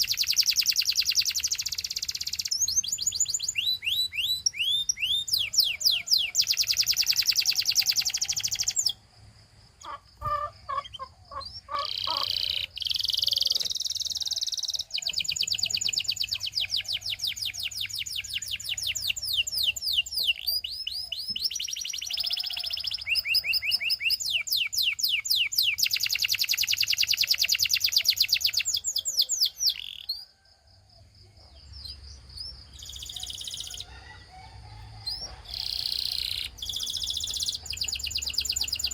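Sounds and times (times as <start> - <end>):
canary singing trills: 0.0 - 9.1, 9.8 - 30.4, 31.4 - 34.2, 34.8 - 38.9.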